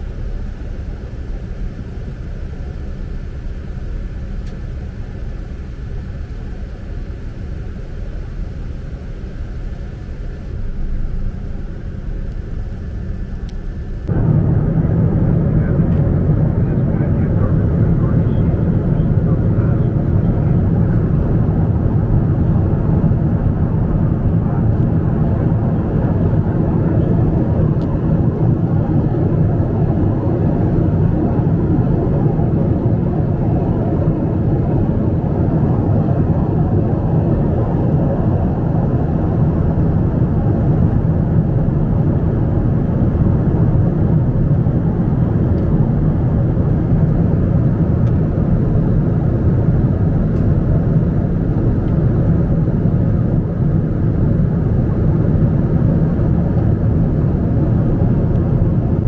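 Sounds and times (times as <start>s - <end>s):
airliner cabin engine rush: 0.0s - 59.0s.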